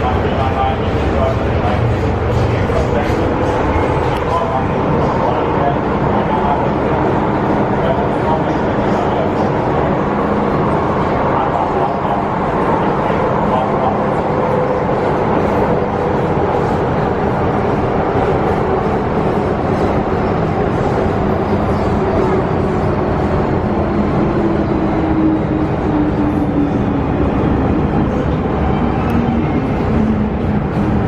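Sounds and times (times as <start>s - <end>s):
electric train rumbling on track: 0.0s - 31.0s.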